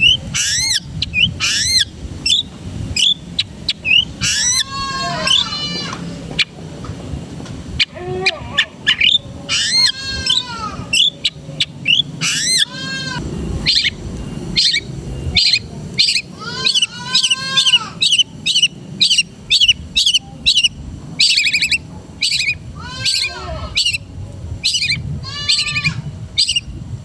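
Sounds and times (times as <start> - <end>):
shrike singing: 0.0 - 6.7, 7.8 - 26.8.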